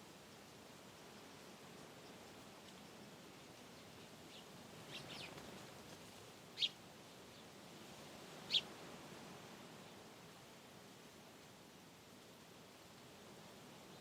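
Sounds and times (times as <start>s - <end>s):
faint wind in trees: 0.0s - 14.0s.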